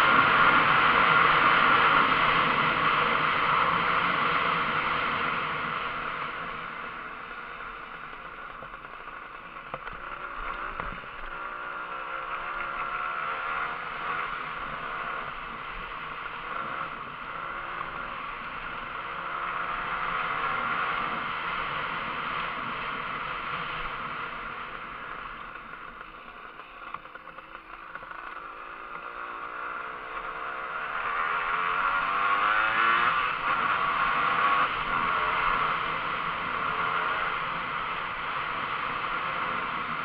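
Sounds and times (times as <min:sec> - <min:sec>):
motorcycle engine running: 0:00.0 - 0:40.0
steady rushing noise: 0:00.0 - 0:40.0.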